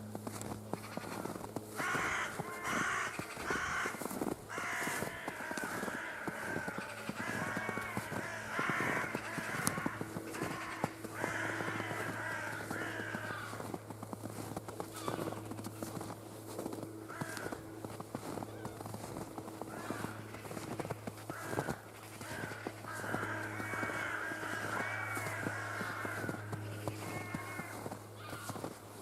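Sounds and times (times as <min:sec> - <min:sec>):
crows cawing: 0:00.0 - 0:29.0
footsteps crunching in snow: 0:00.0 - 0:29.0.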